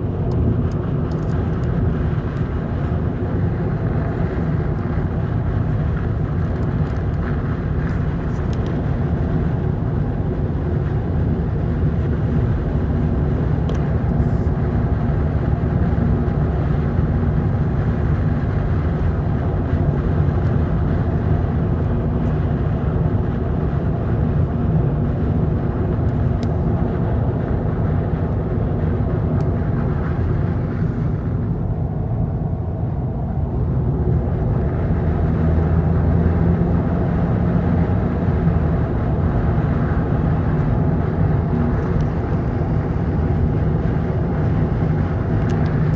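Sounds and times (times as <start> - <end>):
faint engine hum: 0.0 - 45.9
wind and road noise in car: 0.0 - 45.9.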